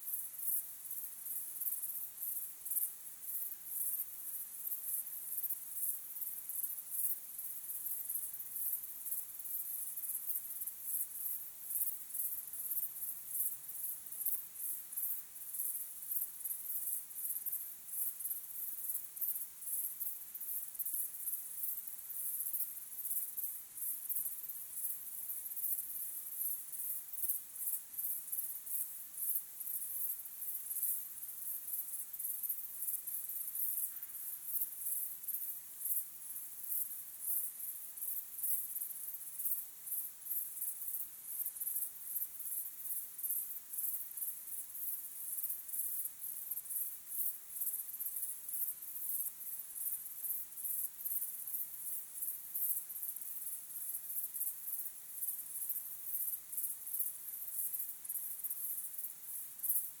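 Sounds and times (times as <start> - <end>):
crickets chirping: 0.1 - 60.0.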